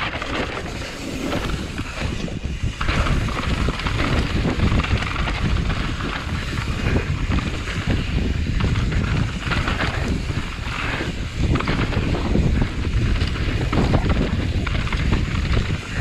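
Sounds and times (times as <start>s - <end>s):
bike rattling over bumps: 0.0s - 16.0s
bike tyres rolling on dirt: 0.0s - 16.0s
wind on microphone: 0.0s - 16.0s.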